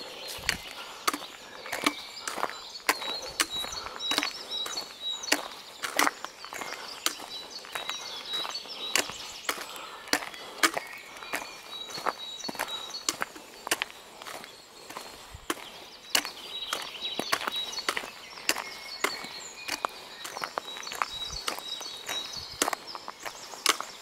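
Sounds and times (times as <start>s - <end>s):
footsteps on a hard path: 0.0s - 24.0s.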